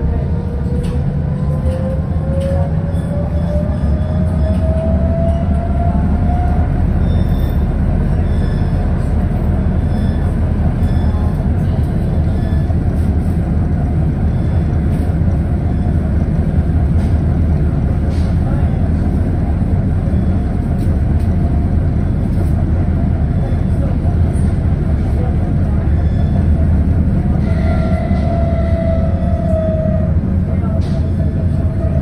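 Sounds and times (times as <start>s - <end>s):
tram rolling rumble: 0.0s - 32.0s.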